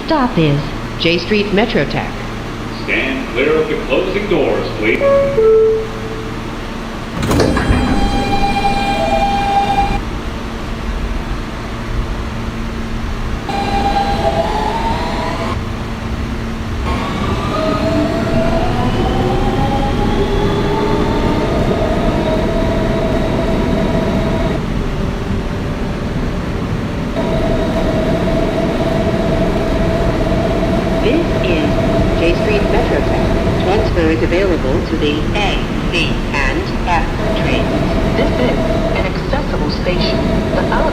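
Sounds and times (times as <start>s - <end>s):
track rumble: 0.0s - 40.9s
electric train motors whining: 2.5s - 10.2s, 13.4s - 26.5s, 27.2s - 40.9s.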